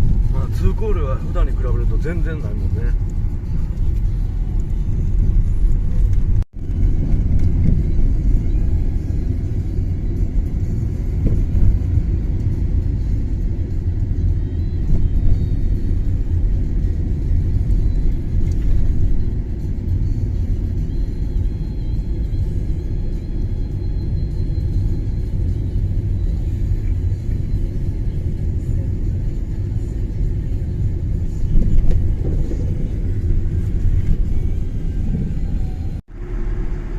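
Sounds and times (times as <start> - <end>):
car driving on snowy road: 0.0 - 36.9.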